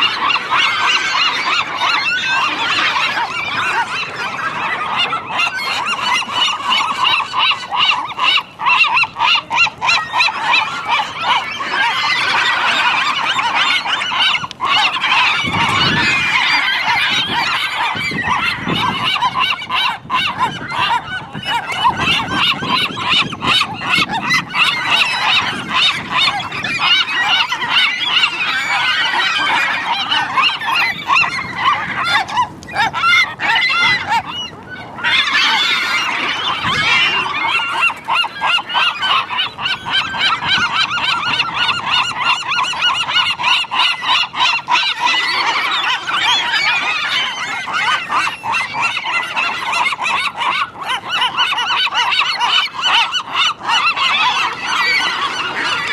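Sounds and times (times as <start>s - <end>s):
flock of gulls squawking: 0.0s - 55.9s.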